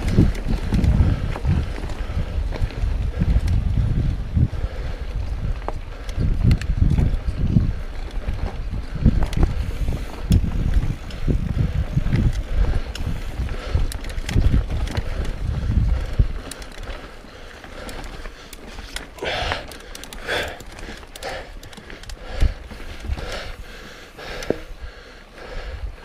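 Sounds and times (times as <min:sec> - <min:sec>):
bike rattling and knocking: 0:00.0 - 0:24.9
rider breathing hard: 0:00.0 - 0:26.0
wind buffeting microphone: 0:00.0 - 0:26.0.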